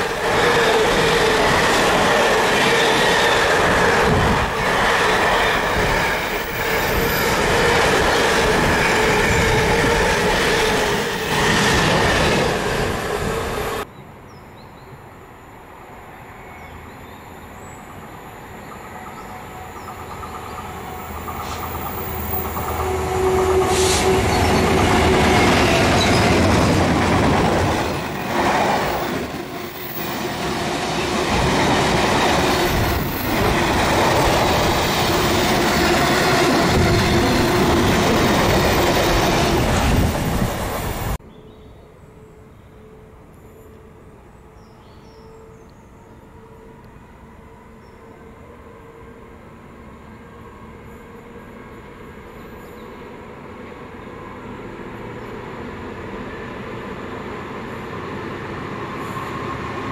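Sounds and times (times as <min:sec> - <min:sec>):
diesel locomotive engine drone: 0:00.0 - 0:14.3, 0:15.0 - 0:59.9.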